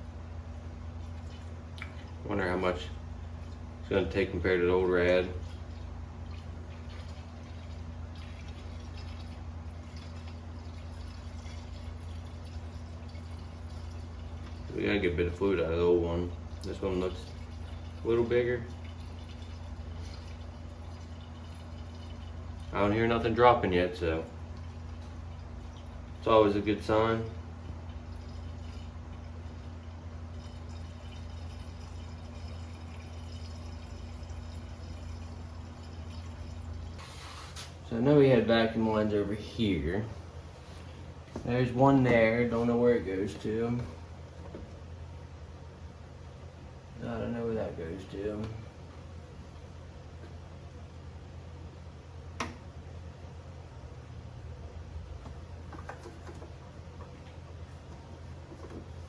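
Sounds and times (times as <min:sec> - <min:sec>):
constant low hum: 0:00.0 - 0:59.0
coolant pouring into radiator: 0:00.2 - 0:49.7.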